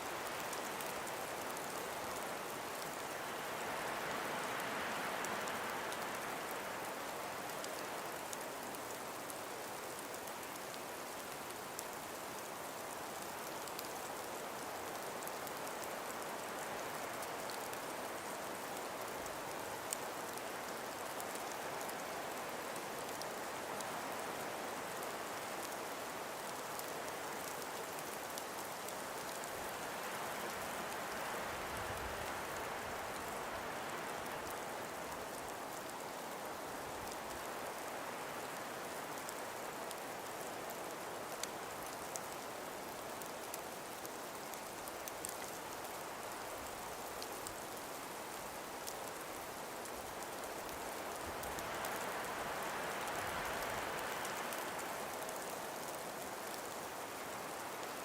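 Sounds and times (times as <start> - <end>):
wind through trees: 0.0 - 58.0
faint ticks: 4.5 - 58.0.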